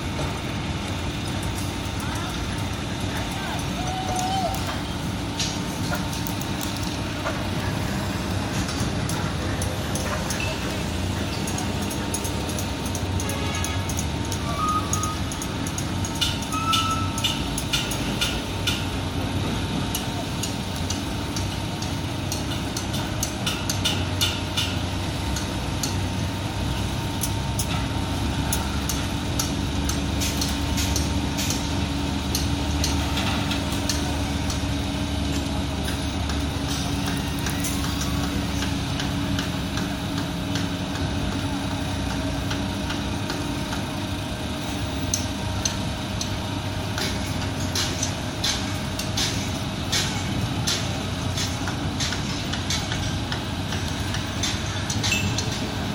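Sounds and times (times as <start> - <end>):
diesel machinery rumbling: 0.0 - 55.9
metallic clicks and clanks: 0.2 - 18.9, 19.9 - 43.9, 44.8 - 55.9.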